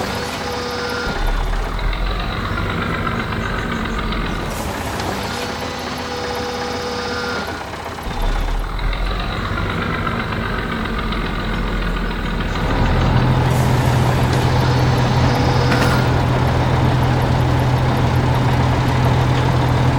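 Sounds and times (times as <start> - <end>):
deep engine hum: 0.0 - 19.9.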